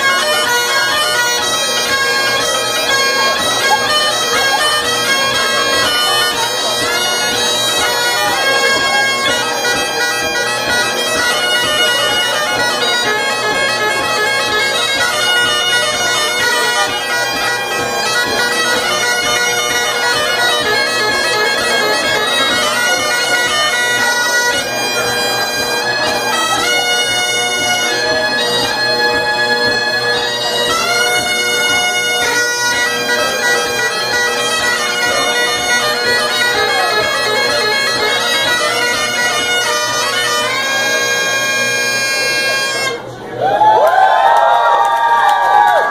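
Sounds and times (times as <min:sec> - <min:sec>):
bagpipes playing lively tune: 0:00.0 - 0:43.3.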